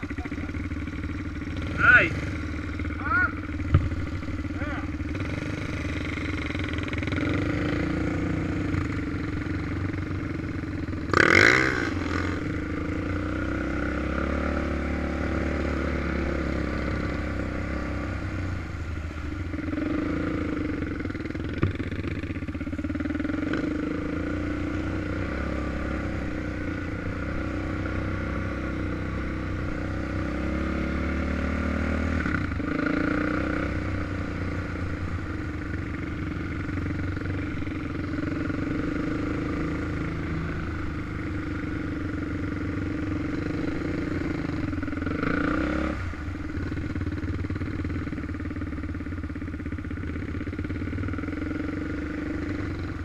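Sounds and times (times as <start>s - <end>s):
quad engine running: 0.0s - 53.0s.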